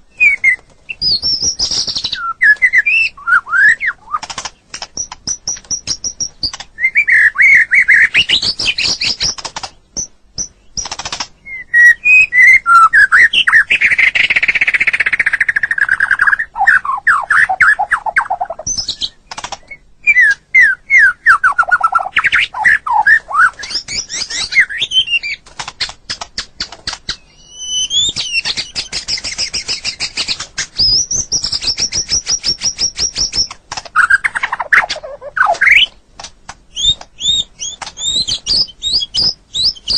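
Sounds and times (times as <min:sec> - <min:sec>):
songbird singing whistled trills: 0:00.0 - 0:04.3, 0:05.0 - 0:36.0, 0:36.7 - 0:39.9.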